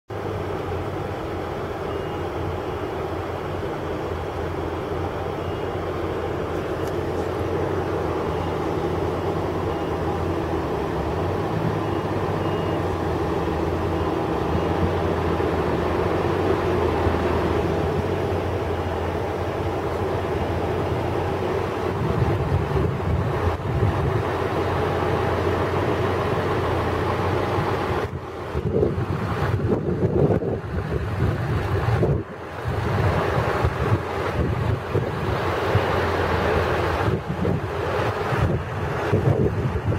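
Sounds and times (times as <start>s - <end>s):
truck engine and road drone: 0.1s - 39.9s.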